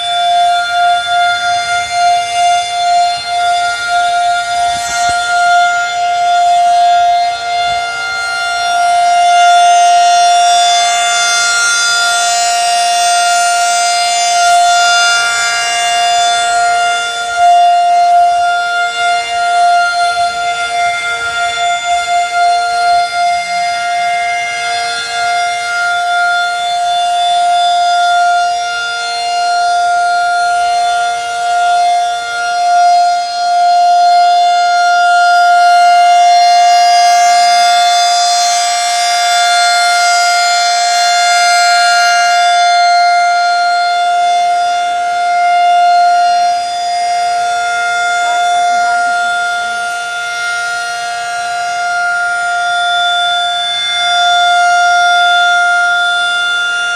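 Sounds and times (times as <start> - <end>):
siren steady pitch: 0.0 - 56.9.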